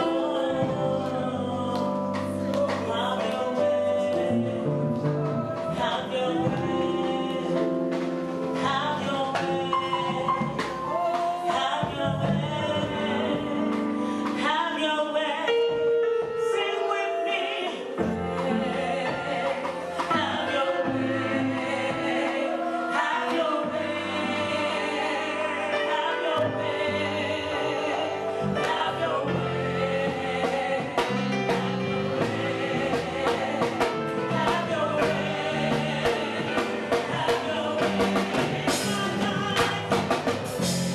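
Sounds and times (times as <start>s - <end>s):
instrumental backing with bass: 0.0s - 16.7s, 17.4s - 40.9s
gospel voices singing: 0.0s - 40.9s.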